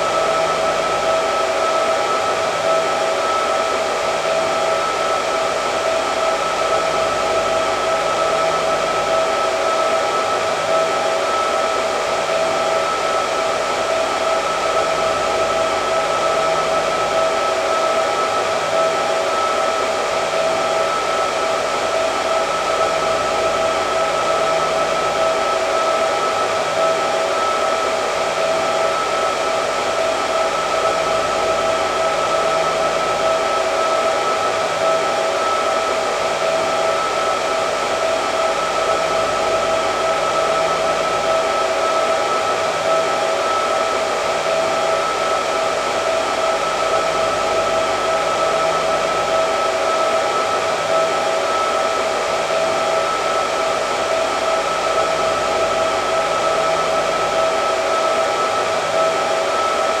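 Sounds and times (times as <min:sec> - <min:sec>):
hair dryer running: 0:00.0 - 1:00.0.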